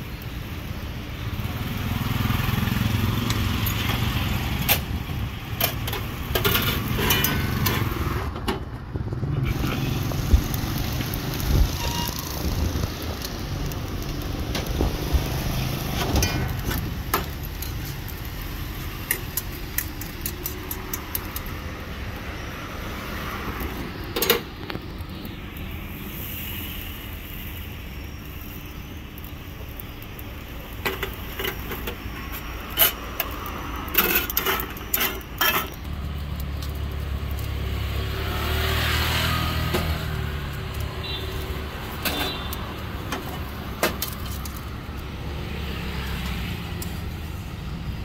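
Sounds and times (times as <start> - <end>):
traffic: 0.0 - 48.0.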